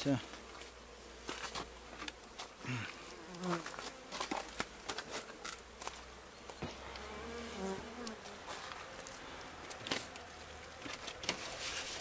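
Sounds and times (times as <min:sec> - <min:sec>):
bees buzzing past: 0:00.0 - 0:12.0.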